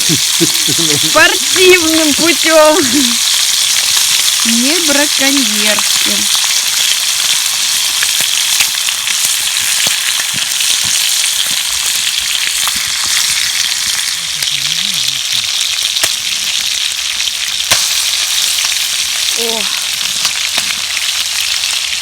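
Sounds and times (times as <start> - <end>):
fish sizzling in a pan: 0.0 - 22.0.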